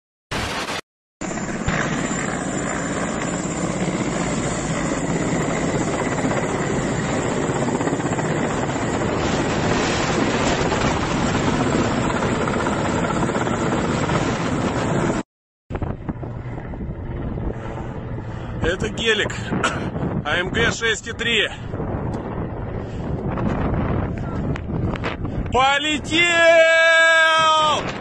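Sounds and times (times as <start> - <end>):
helicopter rotor and engine noise: 1.2 - 28.0.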